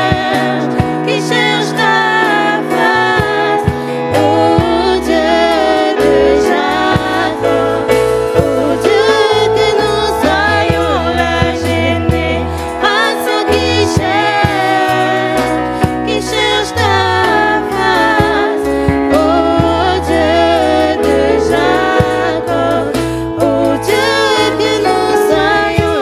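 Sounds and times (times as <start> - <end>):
instrumental accompaniment: 0.0 - 26.0
women singing into microphones: 0.0 - 26.0
low bass notes: 2.9 - 26.0.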